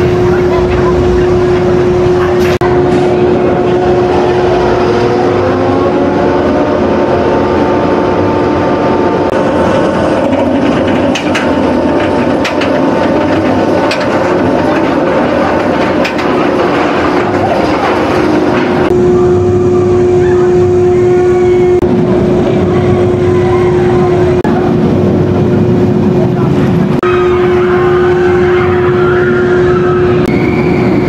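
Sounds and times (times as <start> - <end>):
roller coaster rumbling on track: 0.0 - 31.0.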